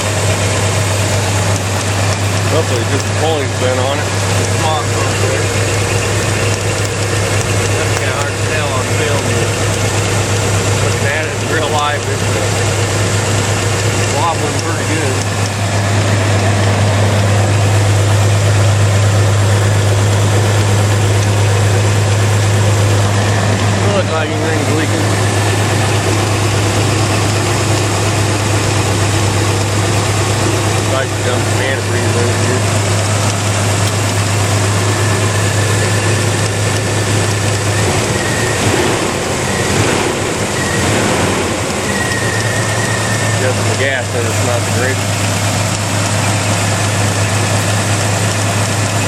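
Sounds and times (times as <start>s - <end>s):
pickup truck engine idling: 0.0s - 49.0s.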